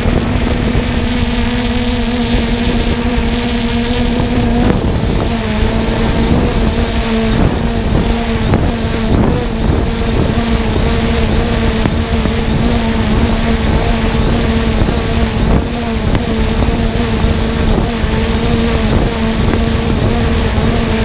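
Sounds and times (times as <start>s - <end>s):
drone propellers humming: 0.0s - 21.0s
wind noise on microphone: 0.0s - 21.0s.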